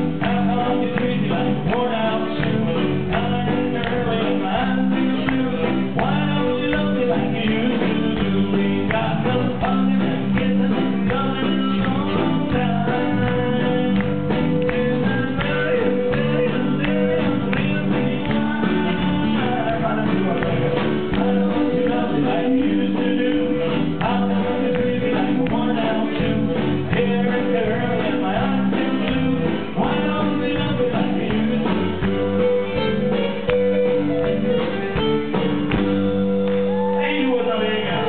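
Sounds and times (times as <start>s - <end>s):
electric guitar: 0.0s - 38.0s
keyboard notes: 0.0s - 38.0s
live band music: 0.0s - 38.0s.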